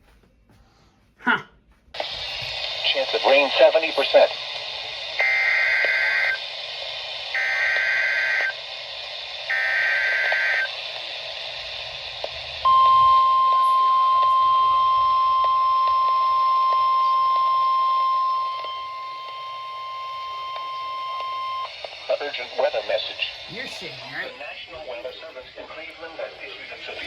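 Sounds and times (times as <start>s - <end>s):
steady alarm tone: 2.0s - 24.5s.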